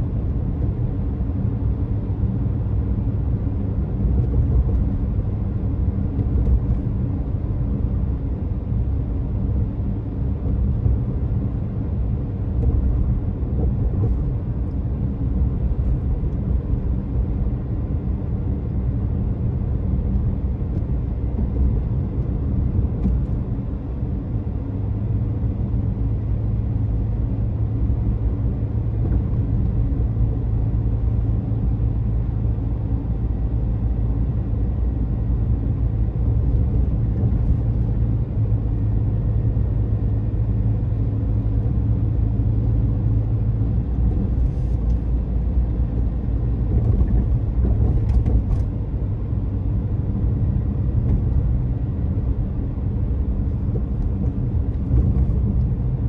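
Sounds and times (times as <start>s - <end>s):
car road noise and engine hum: 0.0s - 56.0s.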